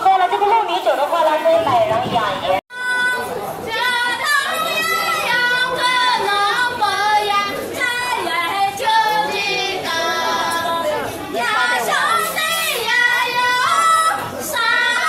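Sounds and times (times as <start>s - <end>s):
women singing folk song: 2.8s - 15.0s.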